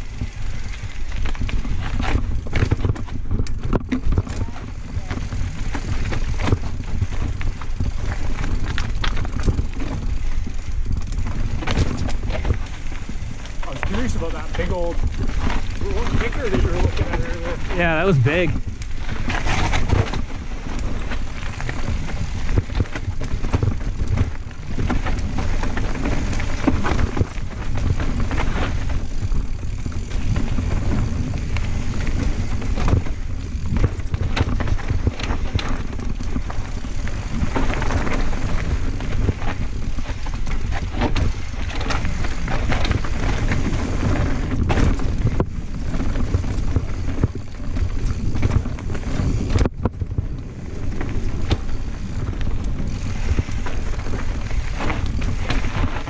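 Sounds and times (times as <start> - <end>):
bike rattling over rocks: 0.0 - 56.0
tyres rolling on dirt: 0.0 - 56.0
wind on microphone: 0.0 - 56.0.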